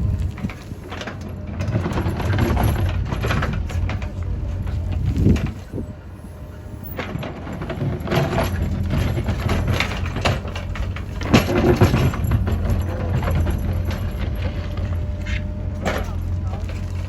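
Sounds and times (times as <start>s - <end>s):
backhoe diesel engine running: 0.0s - 17.0s.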